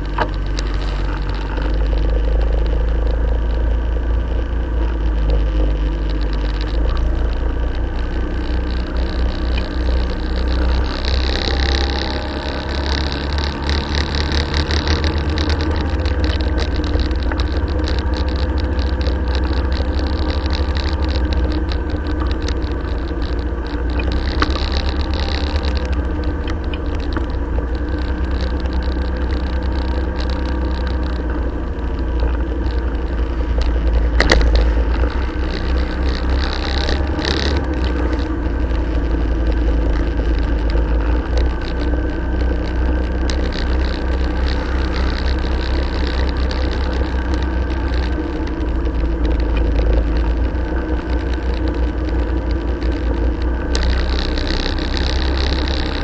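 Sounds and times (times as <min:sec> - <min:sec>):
motorcycle engine cruising: 0:00.0 - 0:56.0
wind rumbling on microphone: 0:00.0 - 0:56.0.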